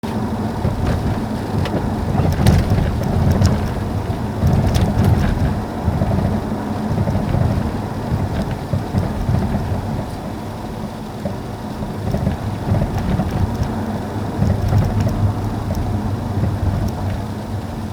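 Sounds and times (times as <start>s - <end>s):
low rumble of car driving: 0.0s - 17.9s
suspension knocks and clatter: 0.0s - 17.9s.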